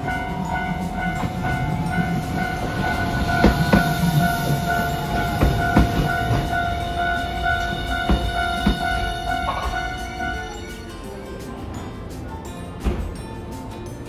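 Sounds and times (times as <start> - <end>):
level crossing bell ringing: 0.0 - 14.0
tram rumbling past: 0.0 - 14.0
wheels clacking over rail joints: 0.0 - 14.0.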